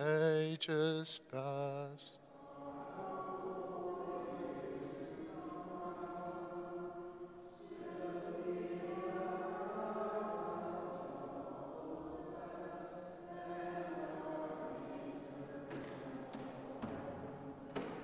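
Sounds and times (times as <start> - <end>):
congregation singing a hymn: 0.0 - 18.0.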